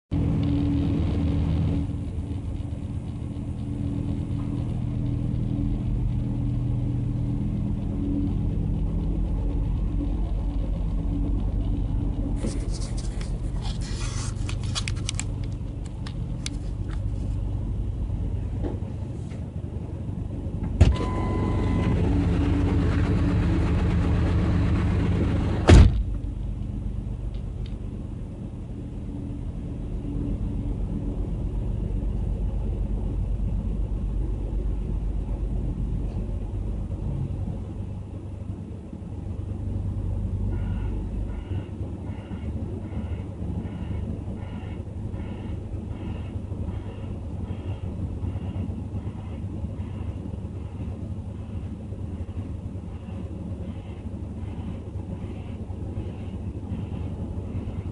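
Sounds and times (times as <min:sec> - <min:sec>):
vehicle engine idling: 0:00.1 - 0:57.9.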